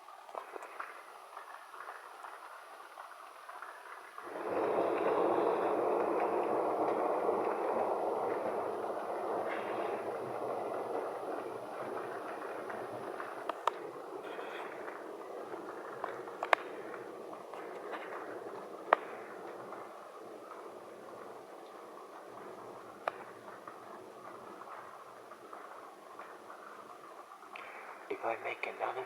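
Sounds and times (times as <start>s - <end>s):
faint crackles: 0.0s - 29.0s
thunder rumbling: 0.4s - 29.0s.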